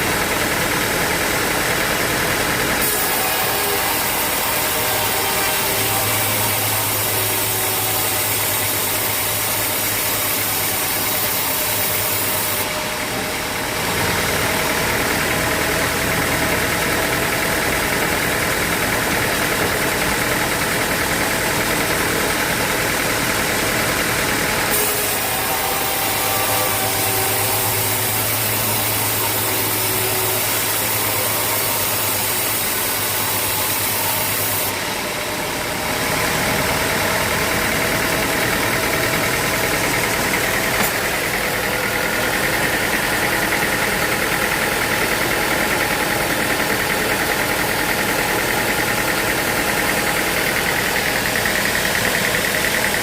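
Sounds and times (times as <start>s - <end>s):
high-pitched machine whine: 0.0s - 53.0s
sawmill machinery running: 0.0s - 53.0s.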